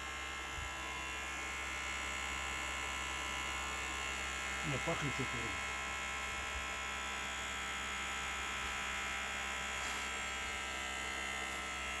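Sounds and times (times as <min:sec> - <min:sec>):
small electric motor buzzing: 0:00.0 - 0:12.0.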